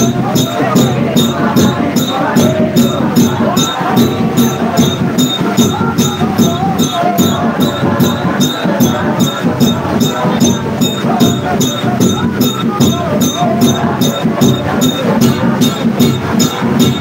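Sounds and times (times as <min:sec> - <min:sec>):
congregation singing a hymn: 0:00.0 - 0:17.0
jingly percussion beat: 0:00.0 - 0:17.0.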